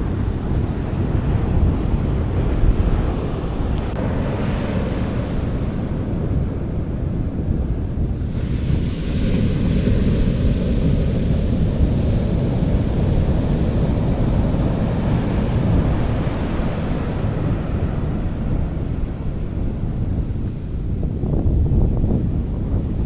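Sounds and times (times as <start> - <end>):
sea waves washing onto beach: 0.0 - 21.2
wind rumbling on microphone: 0.0 - 23.0.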